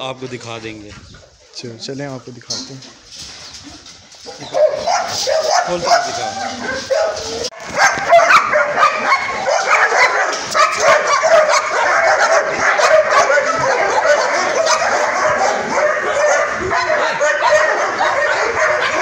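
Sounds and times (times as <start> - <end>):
dogs barking and yelping: 2.9 - 19.0.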